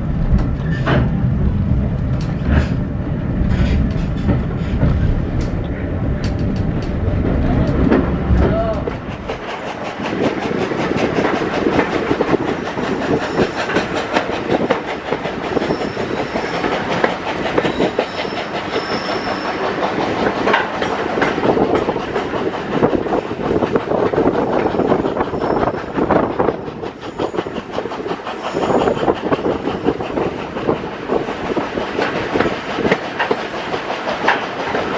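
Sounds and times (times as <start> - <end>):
train wheels rattling on rails: 0.0 - 34.9.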